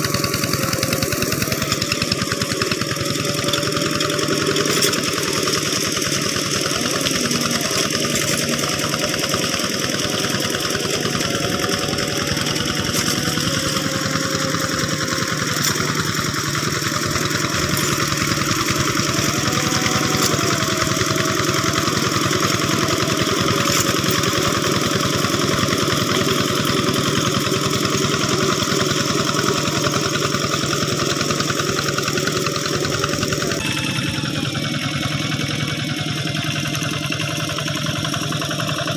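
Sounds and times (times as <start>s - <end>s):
hand tractor diesel engine running: 0.0s - 38.9s.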